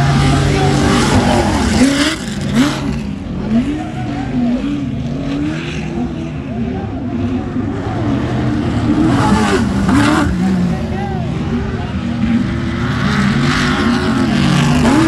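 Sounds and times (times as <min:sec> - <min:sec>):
race buggy engine revving: 0:00.0 - 0:15.0.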